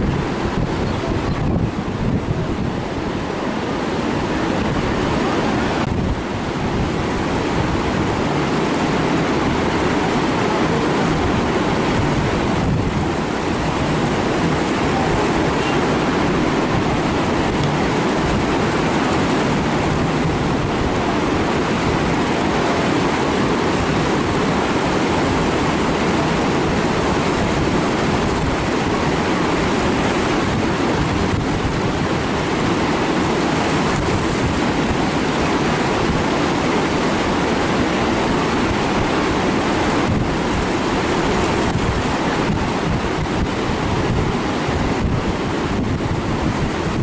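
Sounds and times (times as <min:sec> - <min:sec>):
wind buffeting microphone: 0:00.0 - 0:47.0
river rapids rushing: 0:02.8 - 0:45.8.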